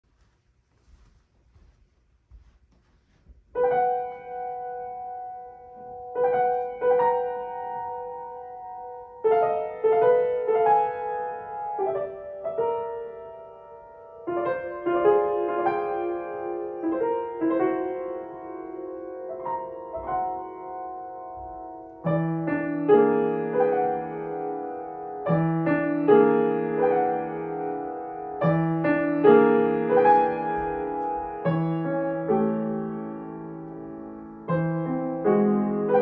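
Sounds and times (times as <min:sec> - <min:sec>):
grand piano playing: 0:03.5 - 0:36.0.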